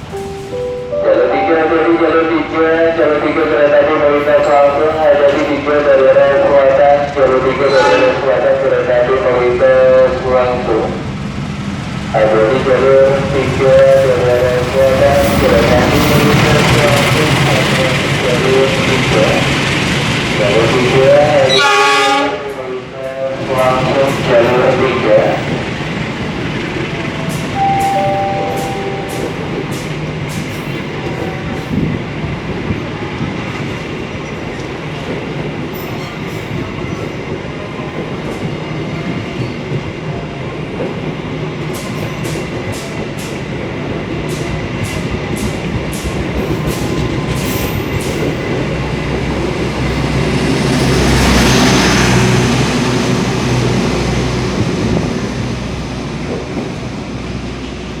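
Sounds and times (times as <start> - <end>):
passenger train rumbling past: 0.0 - 58.0.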